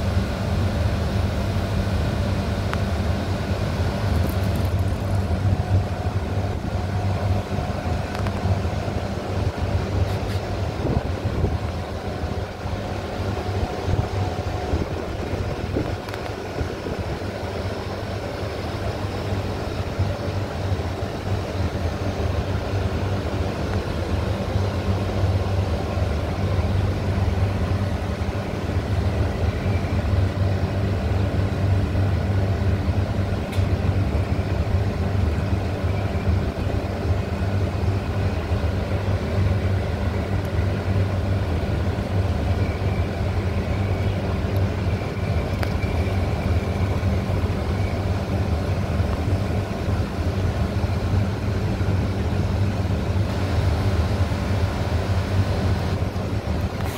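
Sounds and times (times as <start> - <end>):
low mechanical hum: 0.0 - 56.9.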